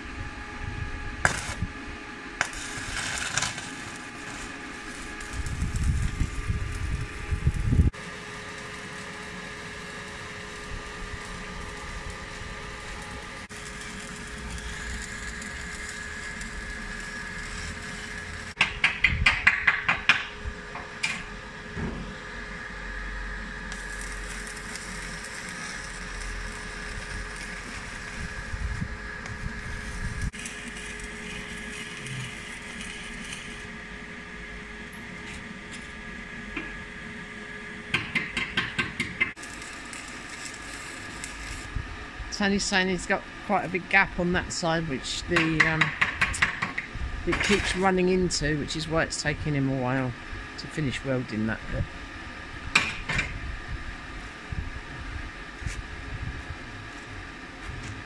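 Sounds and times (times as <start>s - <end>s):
welding arc crackling hiss: 1.2s - 21.2s, 22.1s - 58.0s.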